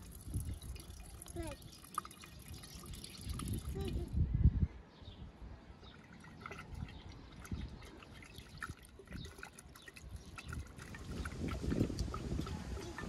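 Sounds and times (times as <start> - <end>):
liquid sloshing in a pitcher: 0.0 - 4.0, 5.8 - 13.0.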